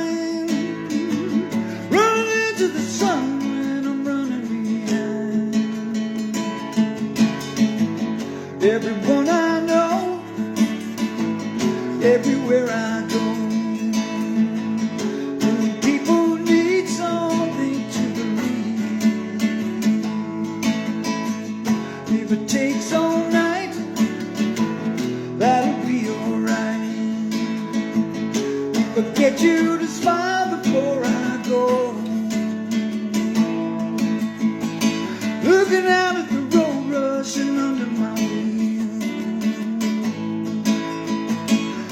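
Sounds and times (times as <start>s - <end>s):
sliding lead guitar line: 0.0s - 41.9s
strummed acoustic guitar: 0.0s - 41.9s.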